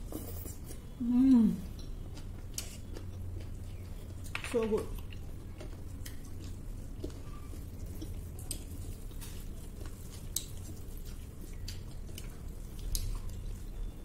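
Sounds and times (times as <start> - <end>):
chewing and smacking: 1.6 - 14.0
fingers mixing food on plates: 1.6 - 14.0.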